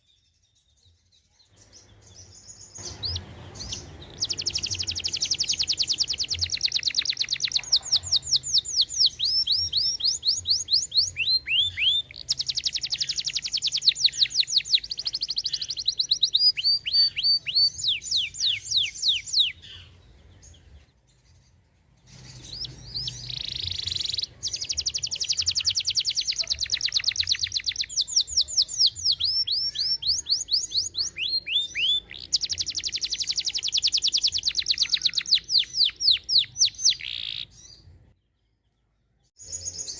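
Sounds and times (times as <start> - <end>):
canary singing trills: 0.0 - 38.4.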